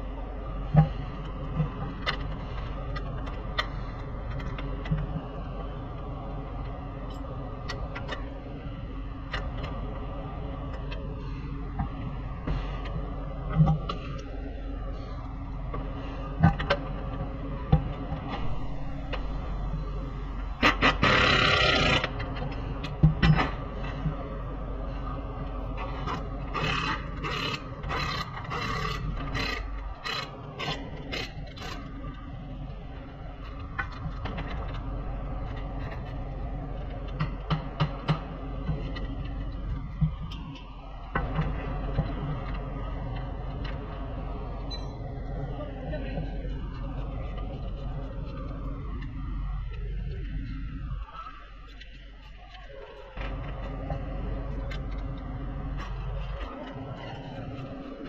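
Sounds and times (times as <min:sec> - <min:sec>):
workshop hum: 0:00.0 - 0:58.0.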